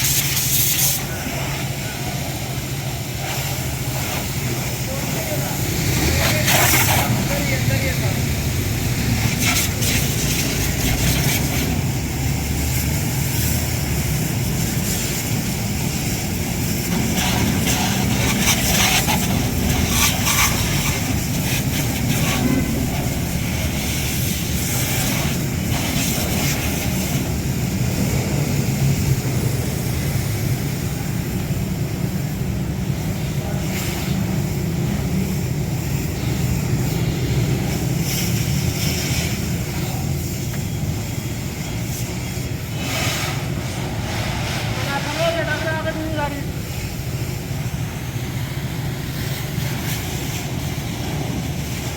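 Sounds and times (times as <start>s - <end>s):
loud machine rumble and hiss: 0.0s - 51.9s.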